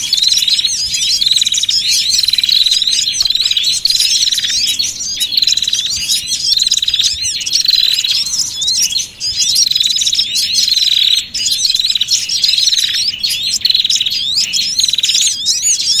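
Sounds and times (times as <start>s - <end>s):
buzzy bird trill: 0.0s - 16.0s
songbirds chirping and whistling: 0.0s - 16.0s.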